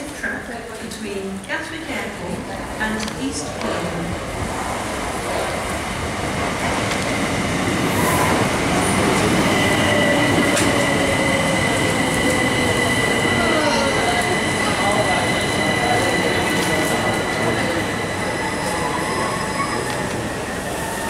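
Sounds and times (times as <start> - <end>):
train wheel and running noise: 0.0 - 21.0.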